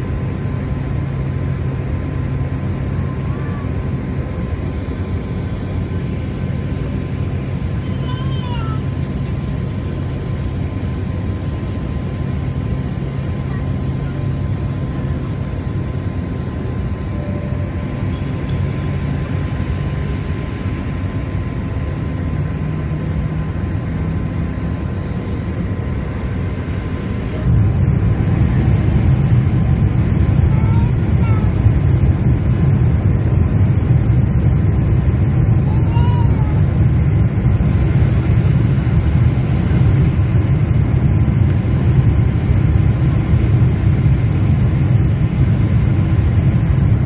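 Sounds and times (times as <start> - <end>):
jet engine rumble: 0.0 - 47.0.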